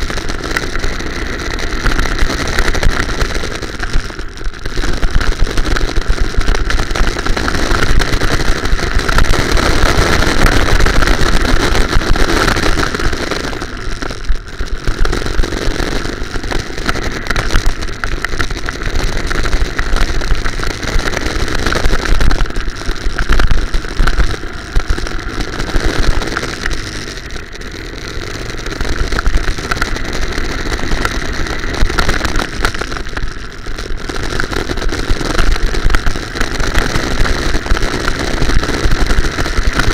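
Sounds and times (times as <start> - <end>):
low vibration rumble: 0.0 - 39.9
go-kart engine revving: 6.5 - 39.9.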